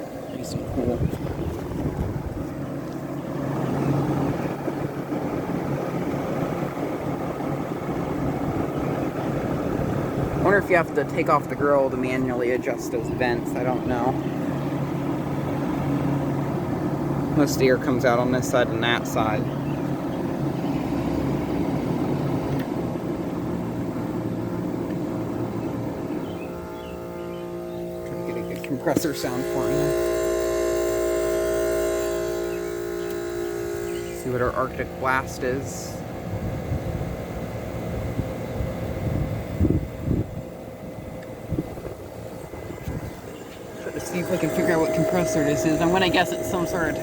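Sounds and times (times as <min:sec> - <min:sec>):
compressor humming: 0:00.0 - 0:47.0
fan air rushing: 0:00.0 - 0:47.0.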